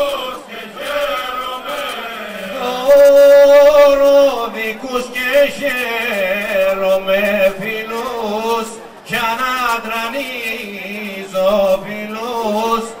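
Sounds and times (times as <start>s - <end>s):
male choir singing unaccompanied: 0.0s - 13.0s.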